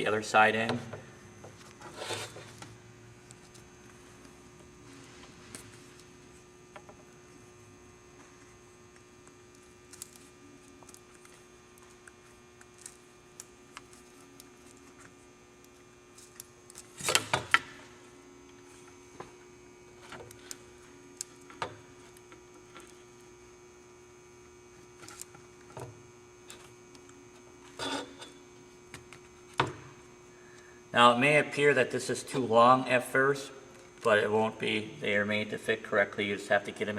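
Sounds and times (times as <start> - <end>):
steady electrical hum: 0.0 - 36.9.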